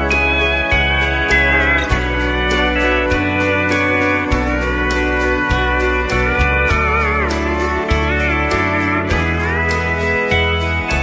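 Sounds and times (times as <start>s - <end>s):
bass line: 0.0s - 11.0s
steel guitar sliding notes: 0.0s - 11.0s
steady drum beat: 0.1s - 11.0s.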